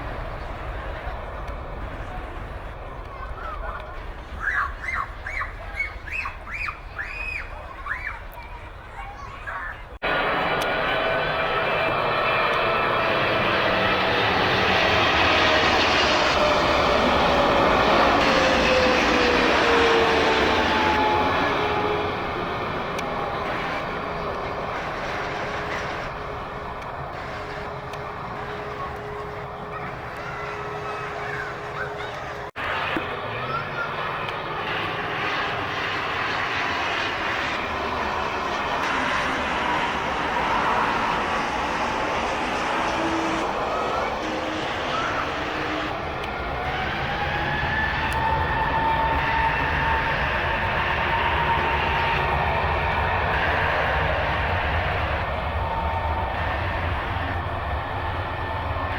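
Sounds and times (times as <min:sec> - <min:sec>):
jet engines with falling whine: 0:00.0 - 0:58.9.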